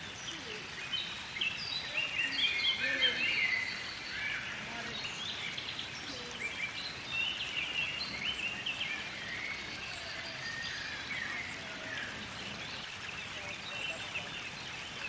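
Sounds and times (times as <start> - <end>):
outdoor hiss: 0.0 - 15.0
songbirds chirping: 0.0 - 15.0.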